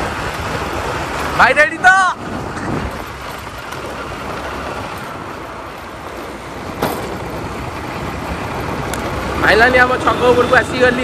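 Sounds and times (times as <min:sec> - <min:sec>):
scooter engine hum: 0:00.0 - 0:11.0
wind and road noise: 0:00.0 - 0:11.0.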